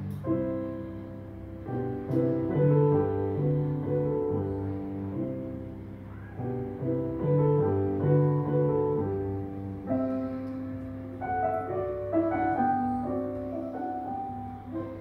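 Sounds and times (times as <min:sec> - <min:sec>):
grand piano playing classical music: 0:00.0 - 0:15.0.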